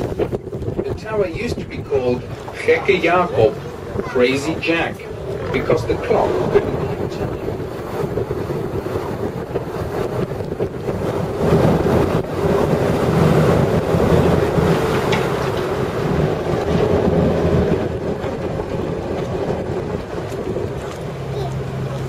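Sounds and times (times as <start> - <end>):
boat engine running: 0.0 - 22.0
water rushing past hull: 0.0 - 22.0
wind on microphone: 0.0 - 22.0.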